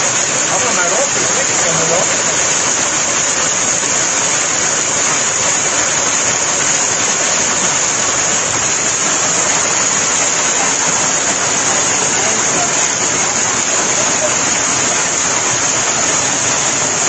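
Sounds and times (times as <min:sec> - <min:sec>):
torrential rain pouring: 0:00.0 - 0:17.0.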